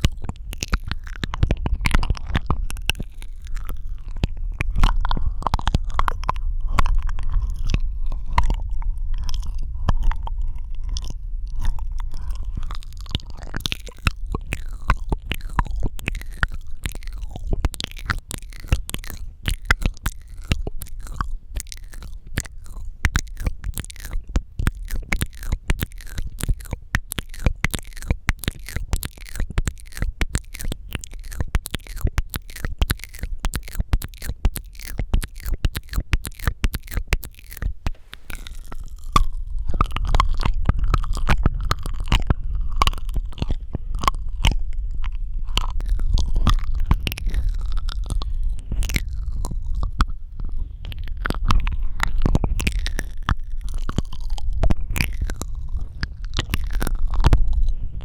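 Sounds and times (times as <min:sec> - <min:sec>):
squelching mouth sounds: 0:00.0 - 0:58.0
wet tongue and lip clicks: 0:00.0 - 0:58.0.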